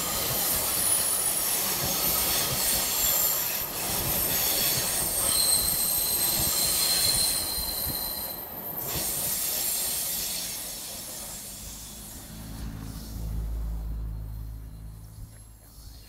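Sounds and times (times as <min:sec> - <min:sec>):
train rumble and clatter: 0:00.0 - 0:16.0
train wheels squealing on rails: 0:00.0 - 0:16.0.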